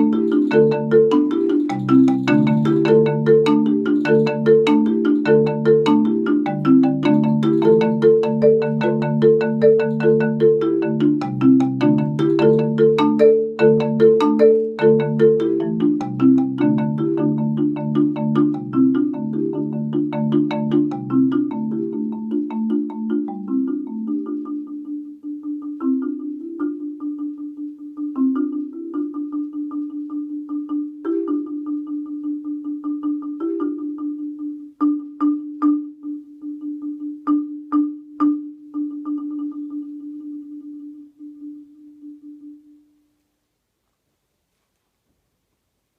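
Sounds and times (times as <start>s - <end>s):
marimba playing: 0.0s - 42.9s.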